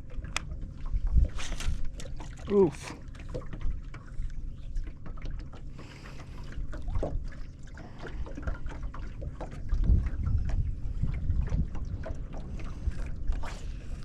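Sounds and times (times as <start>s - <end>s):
wind rumbling on microphone: 0.0s - 4.8s, 6.3s - 14.0s
water lapping against hull: 0.0s - 14.0s.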